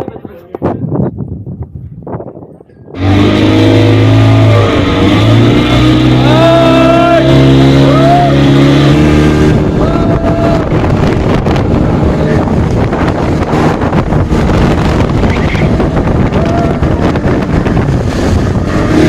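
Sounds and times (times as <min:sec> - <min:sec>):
wind buffeting microphone: 0:00.0 - 0:19.0
motorboat engine running: 0:02.9 - 0:19.0.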